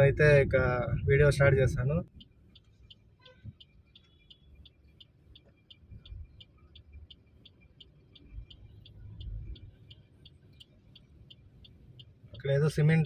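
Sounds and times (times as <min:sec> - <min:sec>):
low rumble of vehicle in traffic: 0:00.0 - 0:13.0
steady high ticking: 0:02.0 - 0:13.0.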